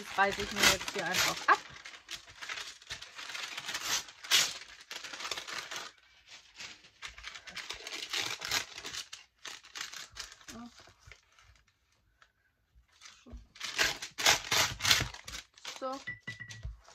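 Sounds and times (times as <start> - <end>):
baking paper tearing: 0.0 - 11.6, 13.2 - 16.1
paper crinkling and rustling: 0.0 - 12.3, 12.9 - 16.9.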